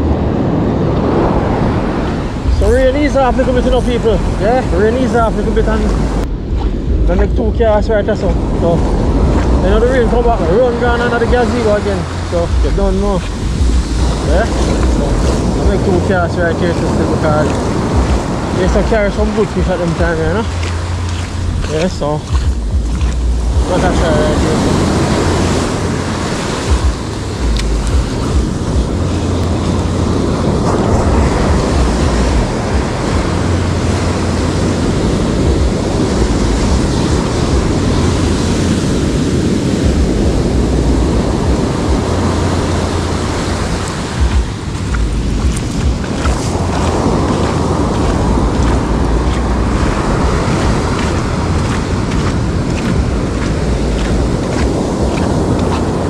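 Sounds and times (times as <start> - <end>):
surf breaking on a beach: 0.0 - 56.0
wind gusting on microphone: 0.0 - 56.0.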